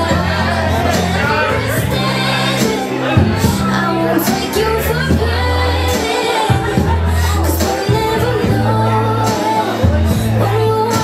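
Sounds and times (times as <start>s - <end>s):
dance band playing: 0.0s - 11.0s.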